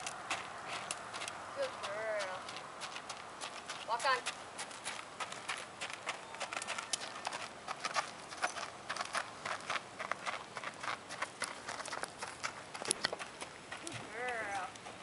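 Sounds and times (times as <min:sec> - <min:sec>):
horse hoofbeats on gravelly sand: 0:00.0 - 0:15.0.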